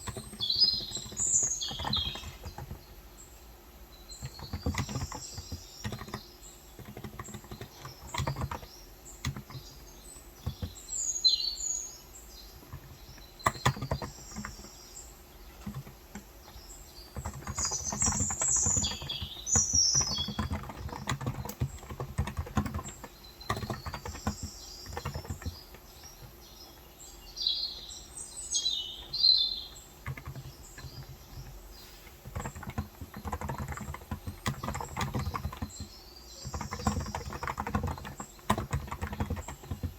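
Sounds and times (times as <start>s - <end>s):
typing on keyboard: 0.0s - 2.9s, 4.1s - 11.0s, 12.5s - 26.8s, 28.6s - 39.9s
birds chirping: 0.0s - 39.9s.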